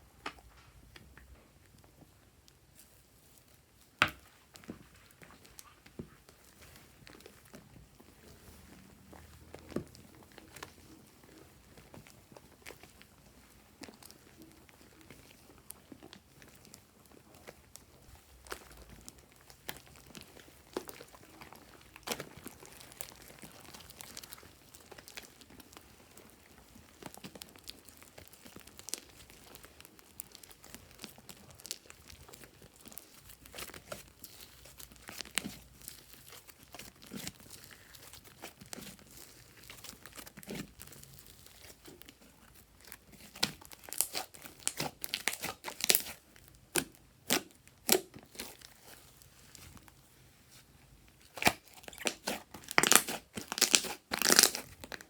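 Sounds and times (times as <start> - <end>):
slime materials crinkling: 0.1 - 55.0.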